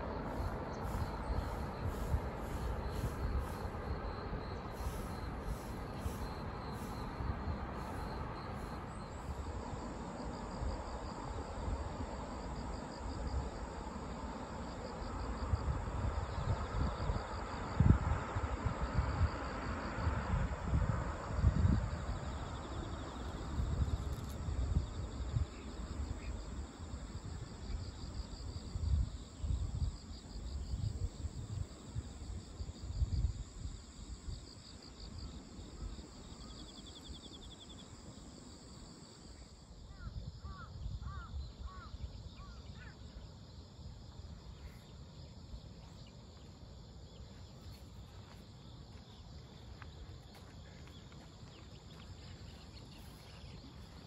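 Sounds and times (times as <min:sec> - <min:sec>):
insects trilling: 0:00.0 - 0:32.1, 0:33.0 - 0:54.0.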